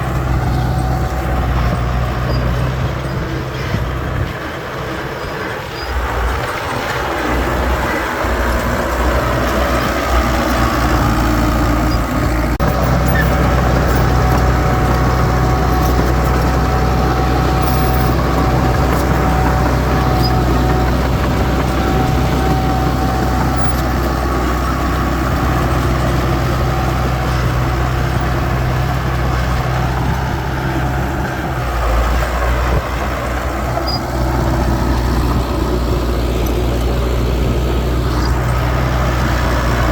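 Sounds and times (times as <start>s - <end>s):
diesel engine running with whine: 0.0s - 39.9s.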